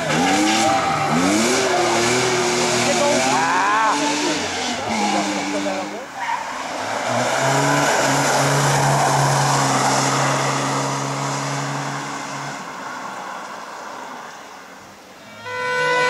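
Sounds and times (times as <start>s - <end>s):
rally car engine passing: 0.0s - 14.5s.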